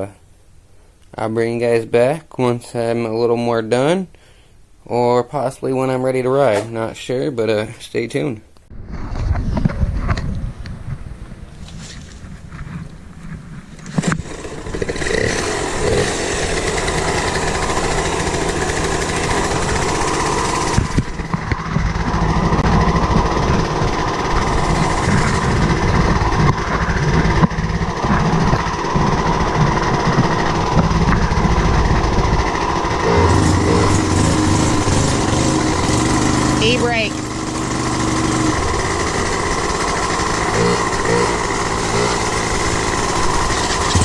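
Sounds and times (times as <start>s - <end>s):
moped engine starting and running: 6.4s - 7.1s, 8.9s - 44.0s.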